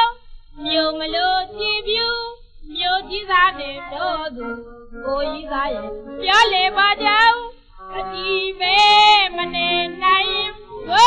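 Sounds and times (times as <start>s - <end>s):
woman singing on old record: 0.0s - 11.0s.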